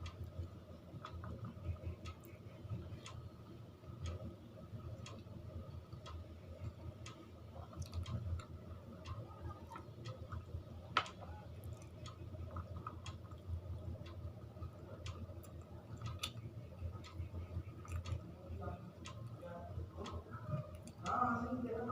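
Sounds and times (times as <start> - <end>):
irregular clicks: 0.0 - 18.3
low steady hum: 0.0 - 21.9
wall clock ticking: 0.0 - 21.9.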